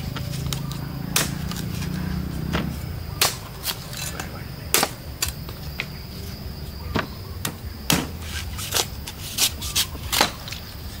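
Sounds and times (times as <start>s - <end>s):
cleaver chopping coconut: 0.1s - 5.5s, 6.9s - 10.4s.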